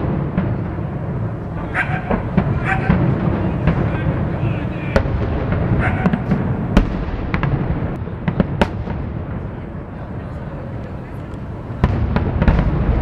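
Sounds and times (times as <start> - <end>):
distant fireworks bangs and crackles: 0.0 - 13.0
low rumble: 0.0 - 13.0.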